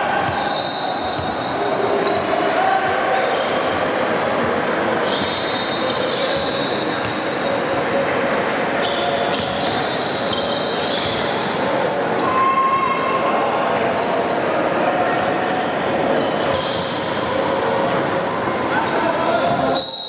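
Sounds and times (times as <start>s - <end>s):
sneakers squeaking: 0.2s - 8.0s, 8.8s - 12.2s, 13.9s - 14.6s, 15.2s - 20.0s.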